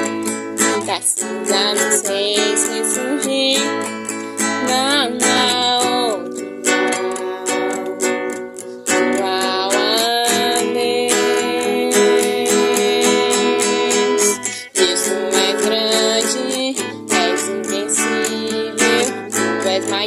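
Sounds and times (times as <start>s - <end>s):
acoustic guitar picking melody: 0.0s - 20.0s.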